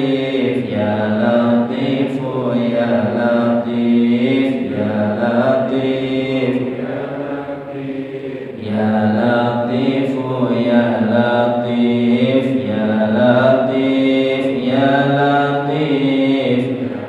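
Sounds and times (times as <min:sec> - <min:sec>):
melodic chanting: 0:00.0 - 0:17.0.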